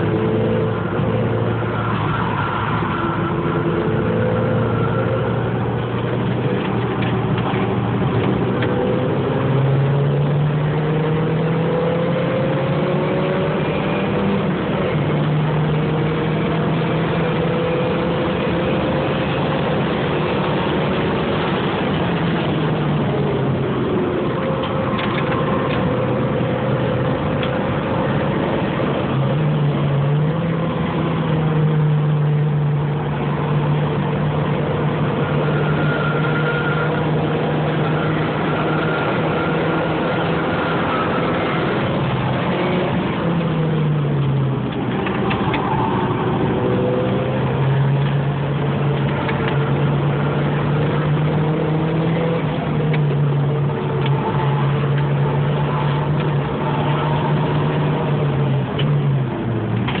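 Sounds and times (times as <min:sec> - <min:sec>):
car engine driven hard: 0:00.0 - 1:00.0
wind and road noise: 0:00.0 - 1:00.0.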